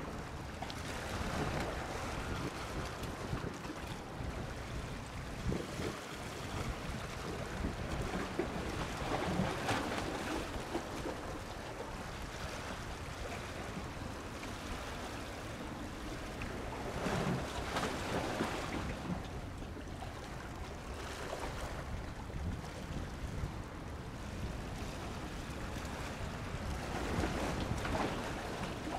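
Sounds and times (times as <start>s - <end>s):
sea surf: 0.0s - 28.9s
wind: 0.0s - 28.9s.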